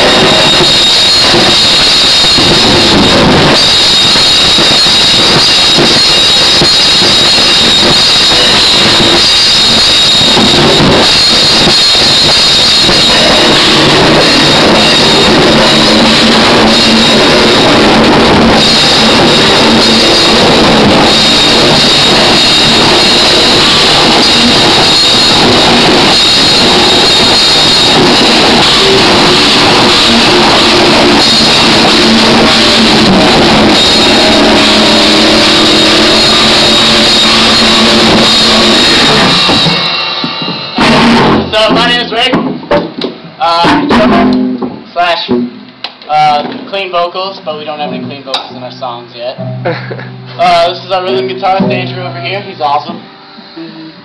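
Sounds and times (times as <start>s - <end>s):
metal band playing loud: 0.0s - 54.0s.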